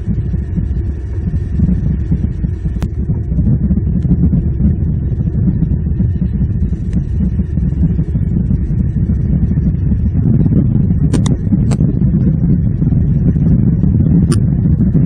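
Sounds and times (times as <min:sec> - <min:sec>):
rain and wind on microphone: 0:00.0 - 0:15.0.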